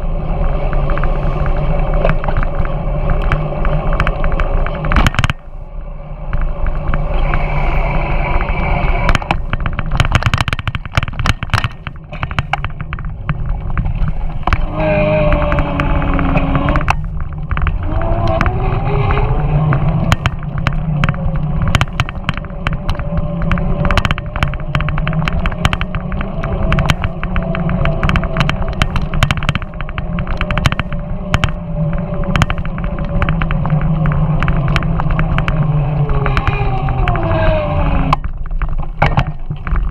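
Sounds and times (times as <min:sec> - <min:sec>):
whining tone gliding up: 0:00.0 - 0:38.3
bicycle rattling and knocking: 0:00.0 - 0:39.9
wind buffeting microphone: 0:00.0 - 0:39.9.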